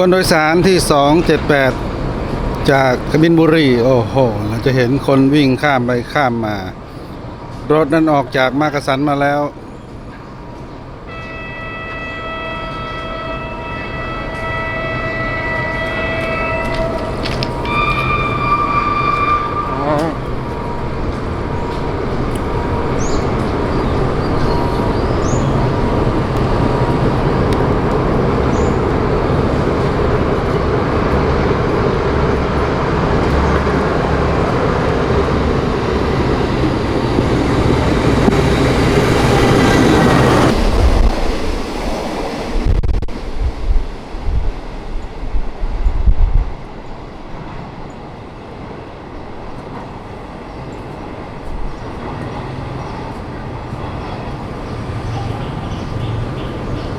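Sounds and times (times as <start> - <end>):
low gusty buffeting: 0.0 - 56.9
train wheels rumbling on rails: 0.0 - 56.9.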